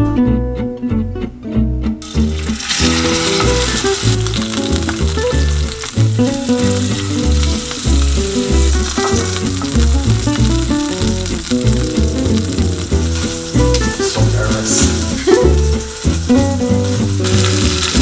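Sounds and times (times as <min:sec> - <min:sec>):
acoustic guitar music: 0:00.0 - 0:18.0
steak sizzling in oil: 0:02.0 - 0:18.0.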